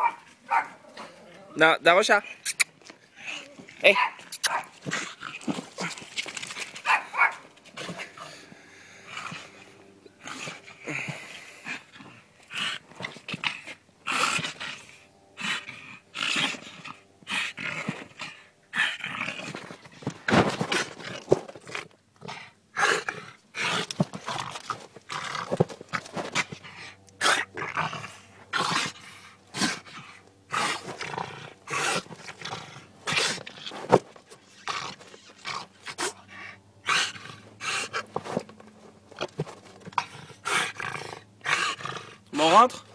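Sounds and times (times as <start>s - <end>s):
dog growling: 2.1s - 38.4s, 39.2s - 42.9s.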